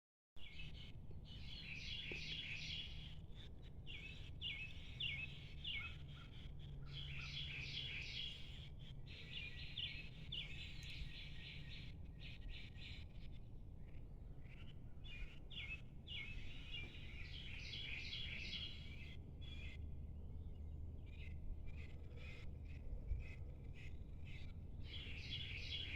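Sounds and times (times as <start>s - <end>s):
small birds chirping: 0.4s - 25.9s.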